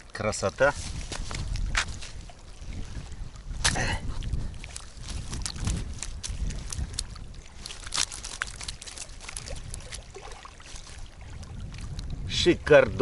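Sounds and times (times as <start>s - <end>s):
low wind rumble: 0.0s - 13.0s
water splashing and trickling: 0.0s - 13.0s.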